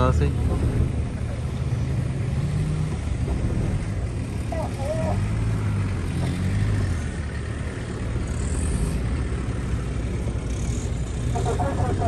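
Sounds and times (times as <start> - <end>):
vehicle engines running at low revs: 0.0 - 12.0.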